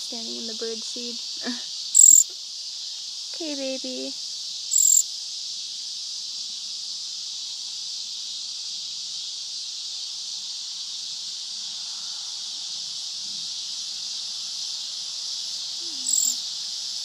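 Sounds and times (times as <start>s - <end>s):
insects chorus hissing: 0.0s - 17.0s.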